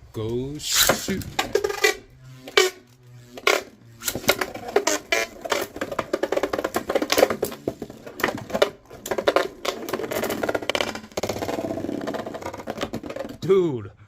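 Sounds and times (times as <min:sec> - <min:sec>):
spinning top whirring: 0:00.5 - 0:13.5.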